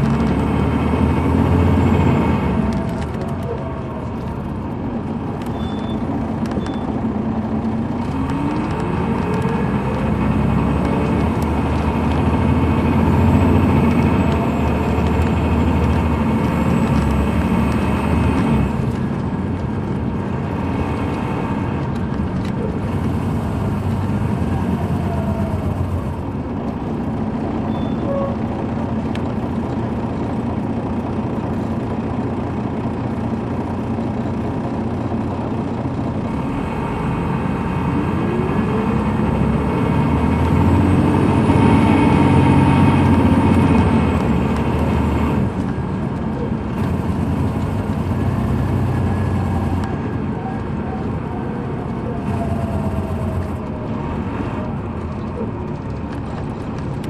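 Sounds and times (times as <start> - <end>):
diesel coach engine: 0.0 - 57.0.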